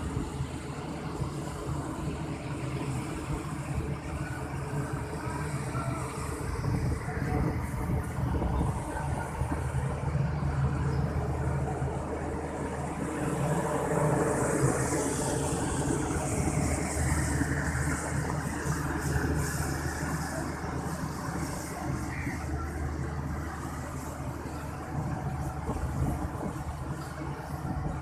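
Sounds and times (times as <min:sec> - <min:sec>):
train engine hum: 0:00.0 - 0:28.0
wheels hissing on rail: 0:00.0 - 0:28.0.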